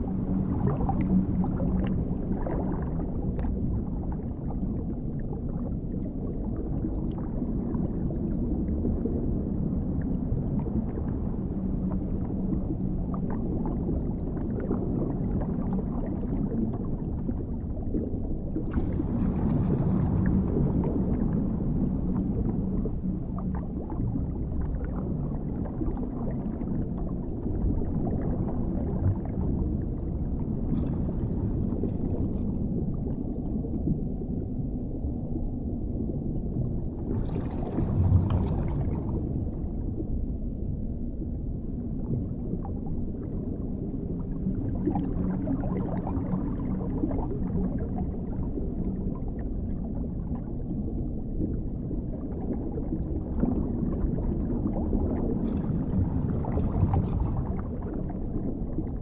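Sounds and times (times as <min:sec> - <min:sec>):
underwater water rumble: 0:00.0 - 0:59.0.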